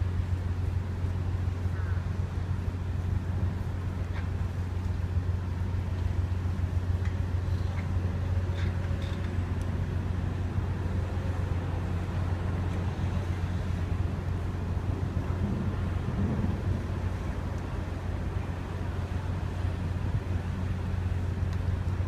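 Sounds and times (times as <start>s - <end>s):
ship engine droning: 0.0s - 22.0s.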